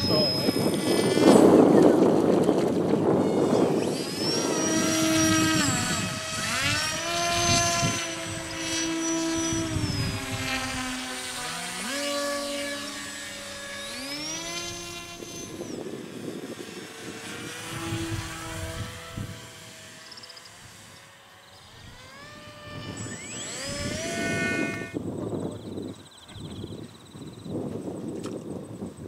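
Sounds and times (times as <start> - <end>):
model motor and propeller whining: 0.0 - 29.0.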